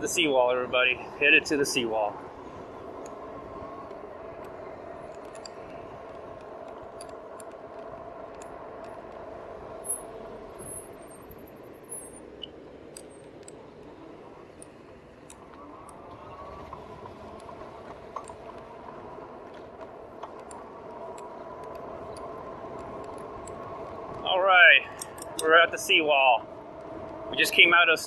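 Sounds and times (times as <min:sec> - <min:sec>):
e-bike rolling hum: 0:00.0 - 0:28.0.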